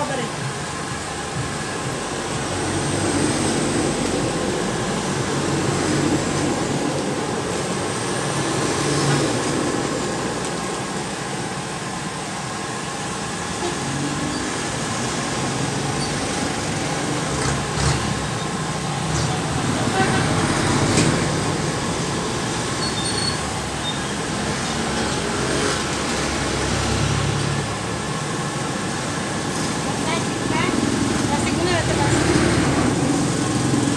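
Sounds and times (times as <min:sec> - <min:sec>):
heavy truck driving past: 0:00.0 - 0:33.9
motor tricycles driving past: 0:00.0 - 0:33.9.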